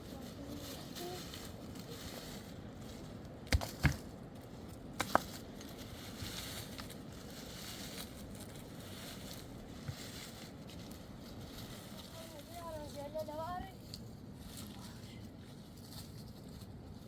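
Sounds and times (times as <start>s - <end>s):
low outdoor background: 0.0s - 17.0s.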